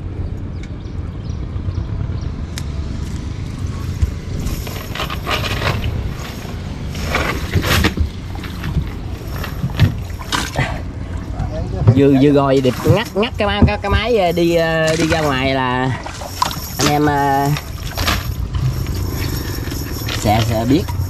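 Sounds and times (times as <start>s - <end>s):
boat engine rumbling: 0.0s - 21.0s
scraping or splashing bursts: 3.4s - 21.0s.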